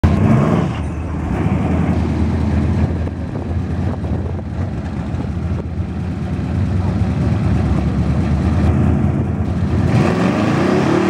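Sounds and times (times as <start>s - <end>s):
pickup engine rumbling: 0.0s - 11.0s.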